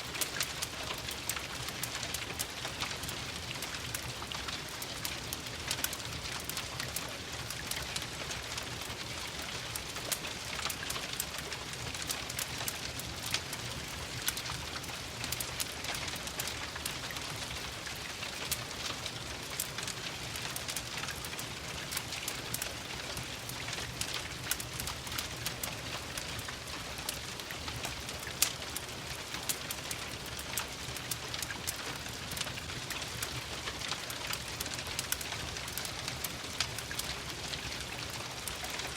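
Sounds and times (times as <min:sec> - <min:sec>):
steady rain hissing: 0:00.0 - 0:38.9
wood fire crackling and popping: 0:00.0 - 0:38.9.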